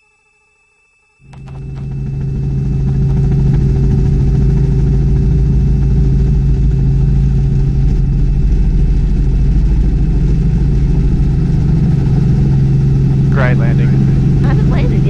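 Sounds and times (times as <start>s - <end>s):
helicopter engine and rotor drone: 0.9s - 15.0s.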